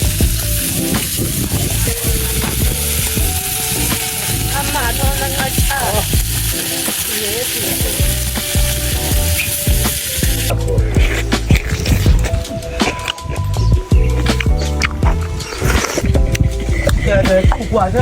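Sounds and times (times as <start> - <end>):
food sizzling: 0.0 - 18.0.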